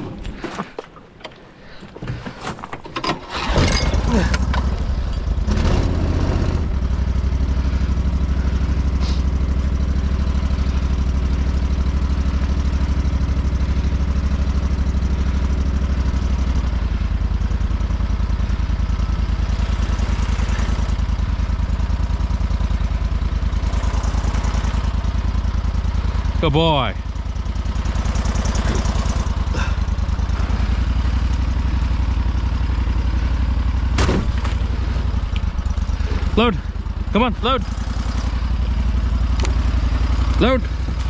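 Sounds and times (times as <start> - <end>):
small boat motor running: 4.0 - 41.0.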